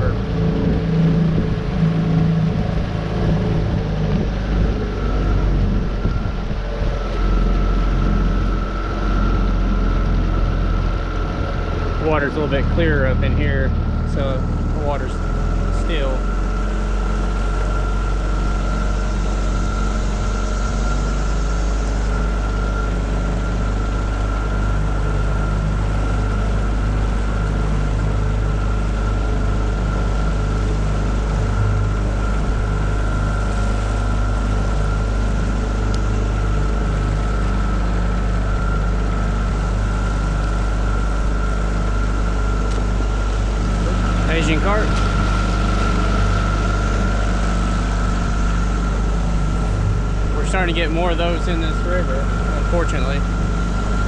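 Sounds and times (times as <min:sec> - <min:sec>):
outboard motor whining: 0:00.0 - 0:54.0.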